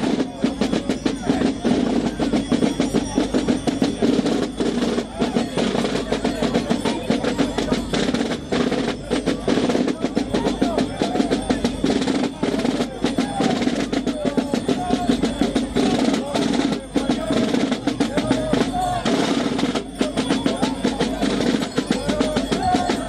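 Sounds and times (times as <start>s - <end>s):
crowd voices: 0.0s - 23.0s
drums rolling rhythm: 0.0s - 23.0s.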